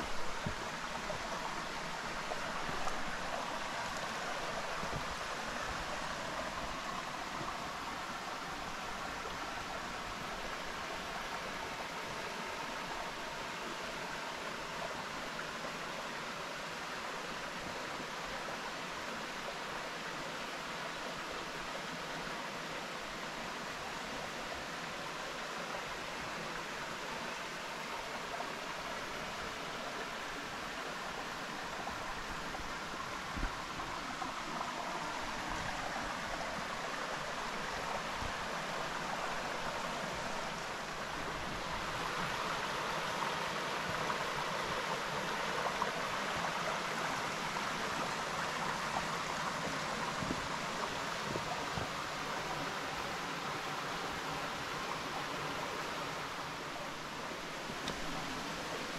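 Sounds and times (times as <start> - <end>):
creek water flowing: 0.0 - 58.9.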